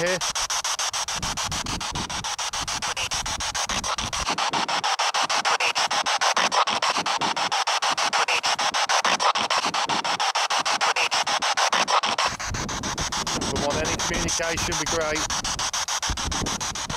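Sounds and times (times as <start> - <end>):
choppy radio static sweeping: 0.0 - 16.9.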